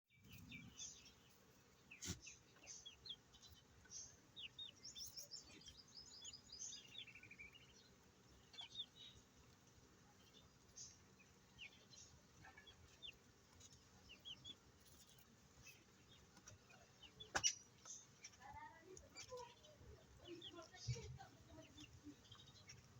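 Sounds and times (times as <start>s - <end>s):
chicks peeping: 0.1s - 22.9s.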